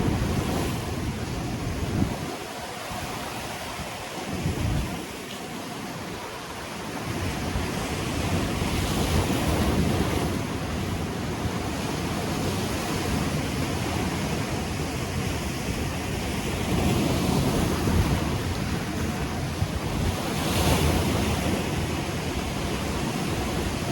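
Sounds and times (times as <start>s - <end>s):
ocean waves breaking on shore: 0.0s - 23.9s
wind buffeting microphone: 0.0s - 23.9s.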